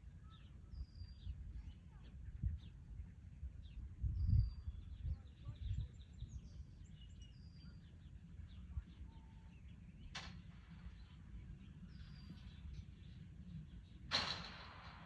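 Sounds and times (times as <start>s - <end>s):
small birds chirping: 0.2s - 14.1s.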